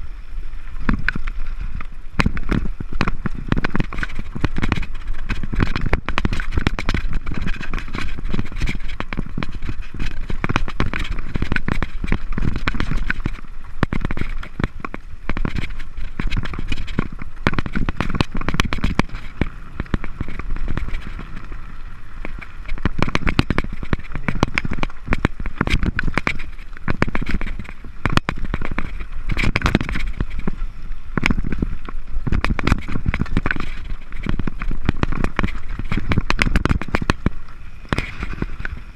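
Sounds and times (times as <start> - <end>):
bike tyres clattering over stones: 0.7 - 38.9.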